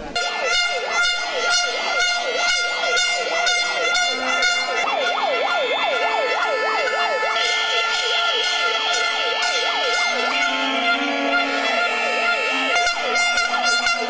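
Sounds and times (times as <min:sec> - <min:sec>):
horns blaring pulsing tones: 0:00.0 - 0:14.0
siren wail: 0:00.0 - 0:14.0.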